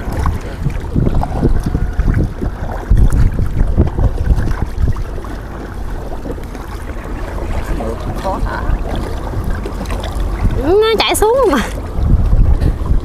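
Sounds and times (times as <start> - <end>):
water noise from rowing boat: 0.0 - 13.0
wind buffeting microphone: 0.0 - 13.0.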